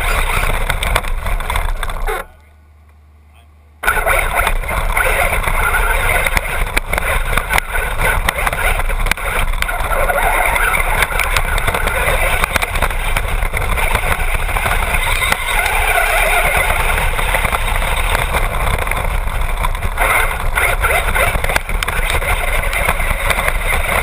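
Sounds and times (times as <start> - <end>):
rc car driving over gravel: 0.0 - 2.3, 3.8 - 24.0
sharp rattling clicks: 3.8 - 24.0.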